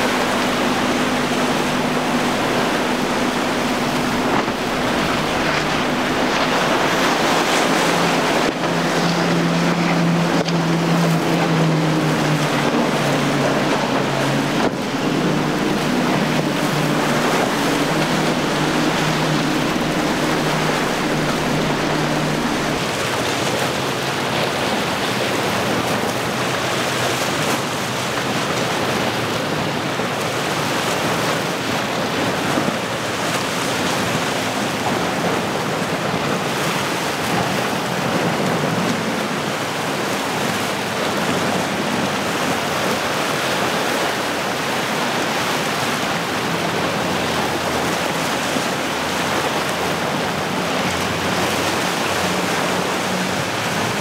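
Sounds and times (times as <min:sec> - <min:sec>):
outboard engines running: 0:00.0 - 0:54.0
spray and waves rushing: 0:00.0 - 0:54.0.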